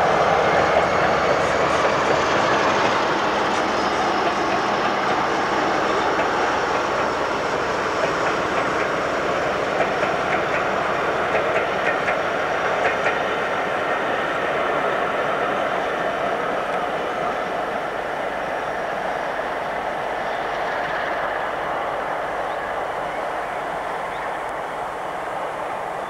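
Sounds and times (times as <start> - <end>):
diesel locomotive engine: 0.0 - 26.0.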